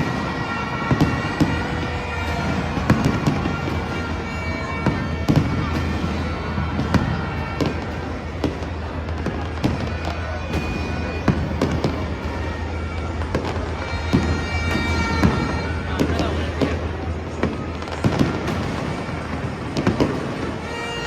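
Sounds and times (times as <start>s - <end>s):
fireworks bangs and crackles: 0.0s - 21.0s
sharp firework reports: 0.0s - 21.0s.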